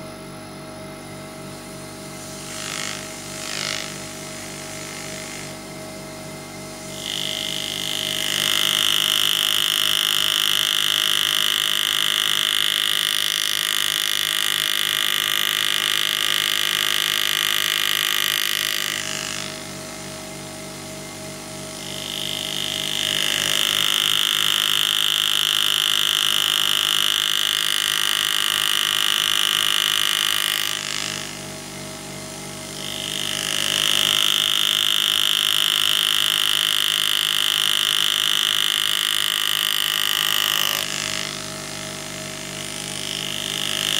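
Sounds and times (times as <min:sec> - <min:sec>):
pneumatic engraver whining: 0:00.8 - 0:43.9.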